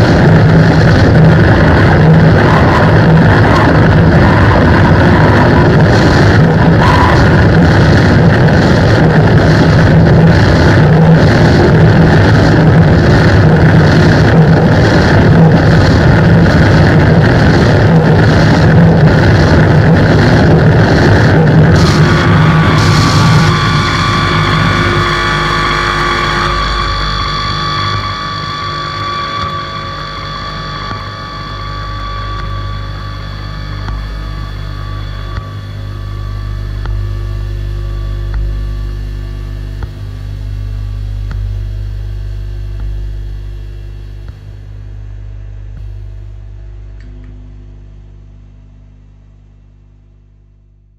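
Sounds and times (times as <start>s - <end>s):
steady pitched tones: 0.0s - 47.3s
distorted guitar noise drone: 0.0s - 50.9s
steady low hum: 0.0s - 50.9s.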